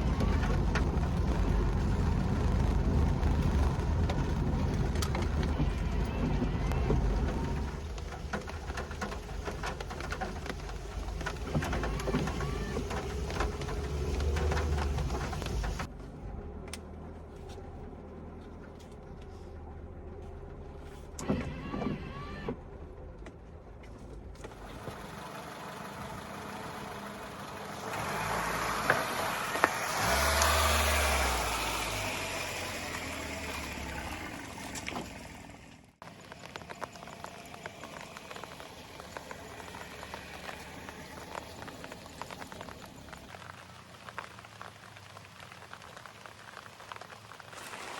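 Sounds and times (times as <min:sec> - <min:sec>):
rain pattering: 0:00.0 - 0:15.9, 0:24.4 - 0:47.9
car engine hum: 0:00.0 - 0:47.9.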